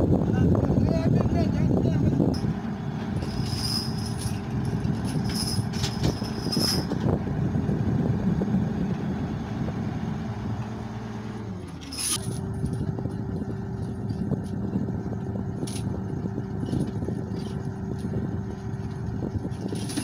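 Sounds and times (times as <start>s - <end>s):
crane diesel engine running: 0.0s - 20.0s.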